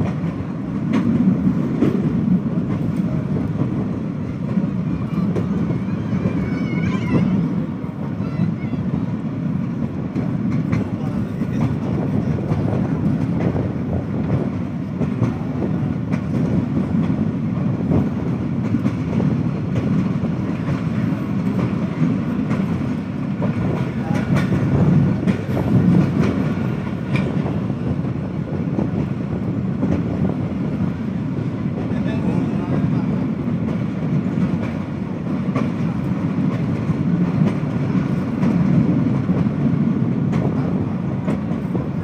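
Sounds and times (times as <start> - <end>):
train low rumble: 0.0 - 42.0.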